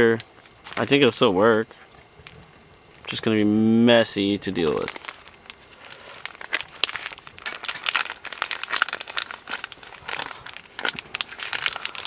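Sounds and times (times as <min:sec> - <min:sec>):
hands mixing sticky dough: 0:00.8 - 0:12.0.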